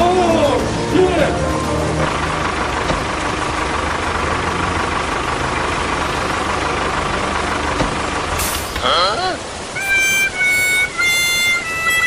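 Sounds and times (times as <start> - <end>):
engine idling with whine: 0.0 - 11.5.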